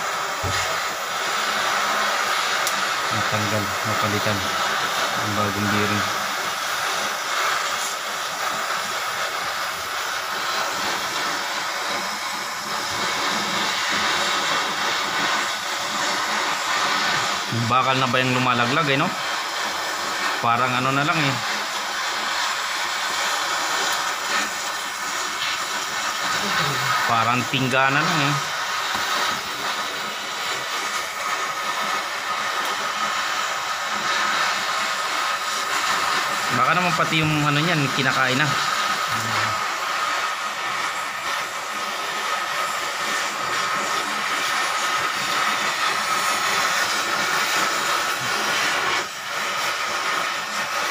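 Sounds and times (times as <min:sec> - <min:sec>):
cutting torch hissing: 0:00.0 - 0:50.9.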